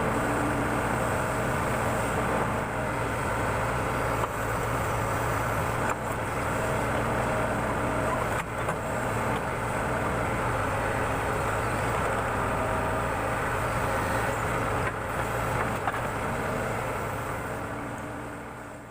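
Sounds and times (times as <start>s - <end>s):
backhoe diesel engine running: 0.0s - 18.9s.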